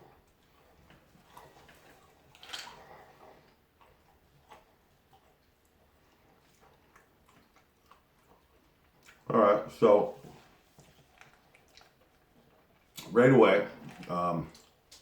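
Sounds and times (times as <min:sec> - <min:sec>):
peanuts being chewed: 0:00.0 - 0:15.0.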